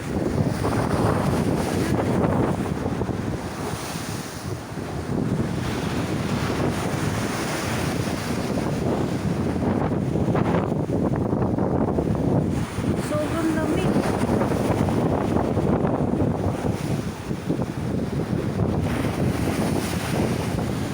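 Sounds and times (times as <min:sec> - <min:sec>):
heavy waves breaking: 0:00.0 - 0:20.9
wind buffeting microphone: 0:00.0 - 0:20.9.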